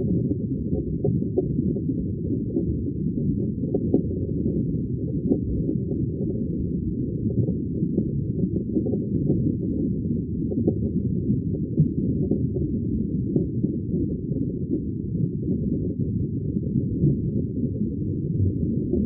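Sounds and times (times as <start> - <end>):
underwater bubbling rumble: 0.0 - 19.0.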